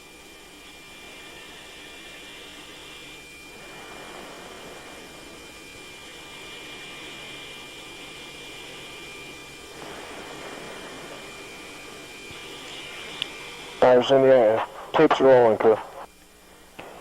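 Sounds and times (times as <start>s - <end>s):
thin high whine: 0.0s - 17.0s
aircraft cabin drone over intercom: 0.1s - 17.0s.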